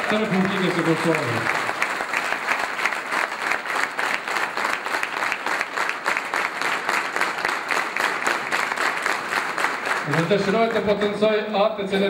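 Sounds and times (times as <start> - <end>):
crowd applauding: 0.0 - 11.4.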